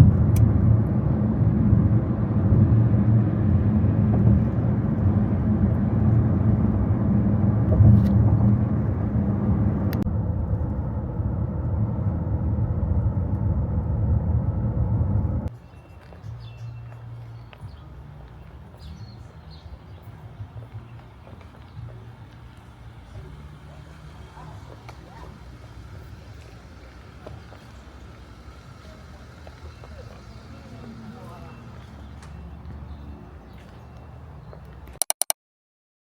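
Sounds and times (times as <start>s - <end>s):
vehicle engine rumbling: 0.0s - 34.9s.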